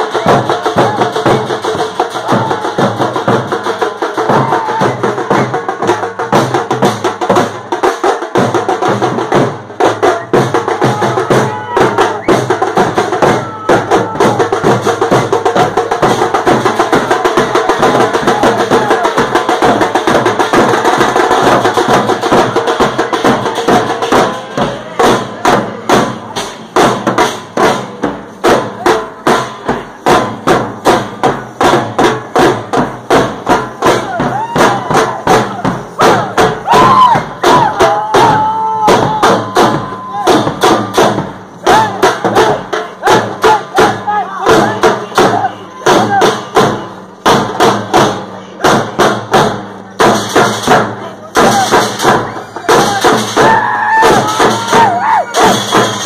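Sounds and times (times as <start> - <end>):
crowd voices: 0.0 - 7.8, 8.8 - 56.0
bass drum beaten with stick: 0.0 - 56.0
frame drums playing fast rhythm: 0.0 - 56.0.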